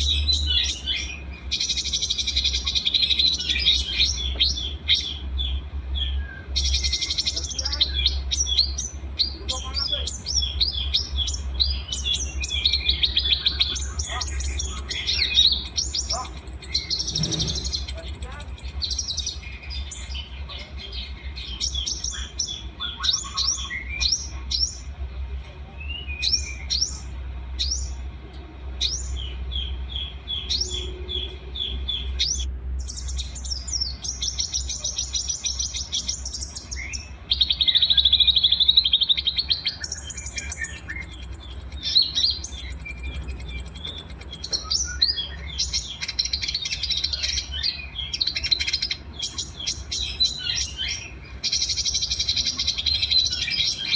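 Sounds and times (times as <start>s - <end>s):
songbirds chirping and trilling: 0.0s - 53.9s
steady low hum: 0.0s - 53.9s.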